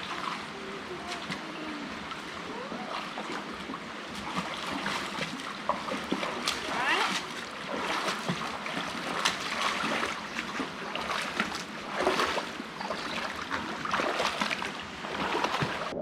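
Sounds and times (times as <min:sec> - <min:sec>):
creek water splashing over rocks: 0:00.0 - 0:16.0.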